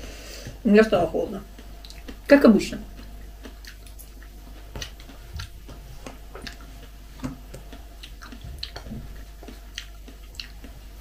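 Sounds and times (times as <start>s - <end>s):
faint low hum: 0.0s - 11.0s
person eating and chewing: 1.4s - 11.0s.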